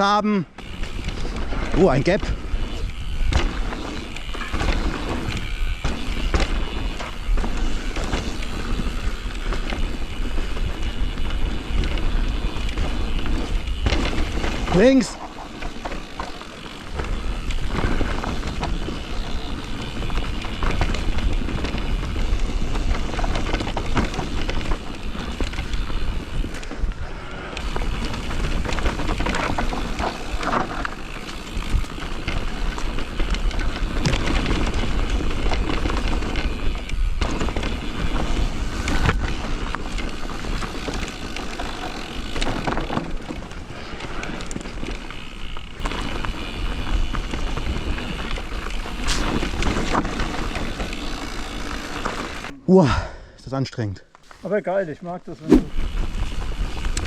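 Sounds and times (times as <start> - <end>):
bike tyres rolling over dirt and stones: 0.0 - 52.5, 54.1 - 57.0
bike knocks and rattles: 0.6 - 27.0, 27.6 - 52.5.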